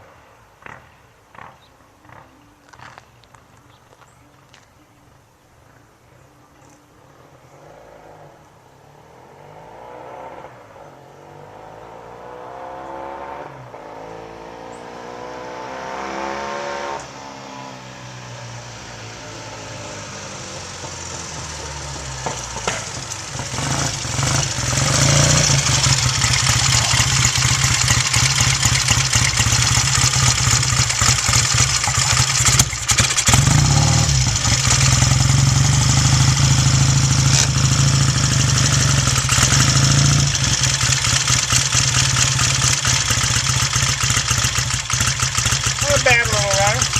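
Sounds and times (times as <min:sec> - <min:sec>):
motorcycle engine revving: 0:07.5 - 0:46.9.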